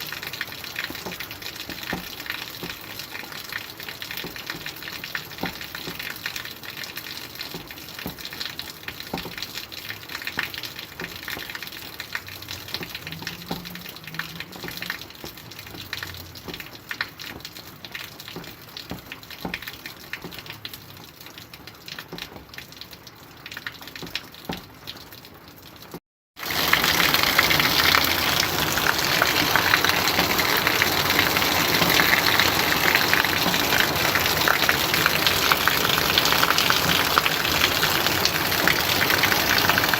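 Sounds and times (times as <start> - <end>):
heavy rain downpour: 0.0 - 39.9
light rain patter: 0.0 - 39.9.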